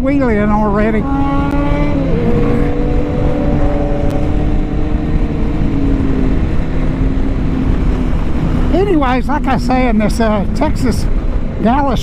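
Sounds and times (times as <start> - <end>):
wind noise on microphone: 0.0 - 12.0
motorcycle engine cruising: 0.2 - 11.9.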